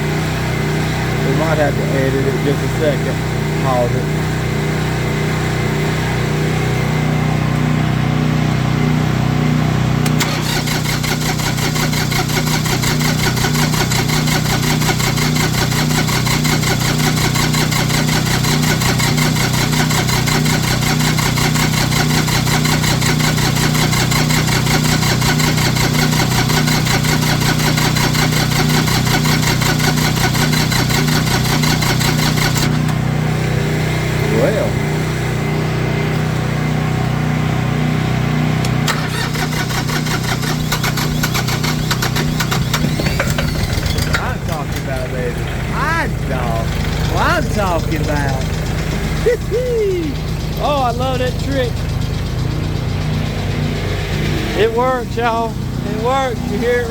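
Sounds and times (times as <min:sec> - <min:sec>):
diesel tractor engine clattering: 0:00.0 - 0:56.9.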